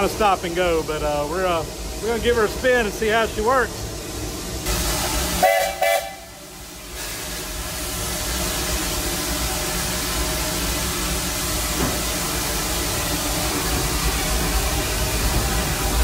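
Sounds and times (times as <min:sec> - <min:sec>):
steam hissing: 0:00.0 - 0:16.0
steam locomotive rumble: 0:00.0 - 0:16.0.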